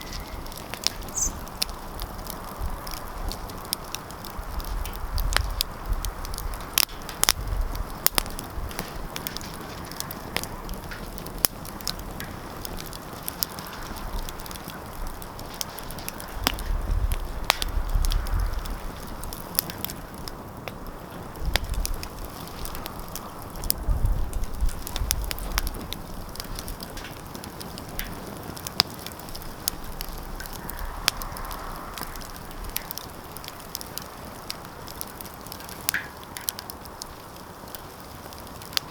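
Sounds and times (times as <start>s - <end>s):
fire pops and snaps: 0.0s - 38.9s
low rumble from fire: 0.0s - 38.9s
wood fire crackling: 0.0s - 38.9s.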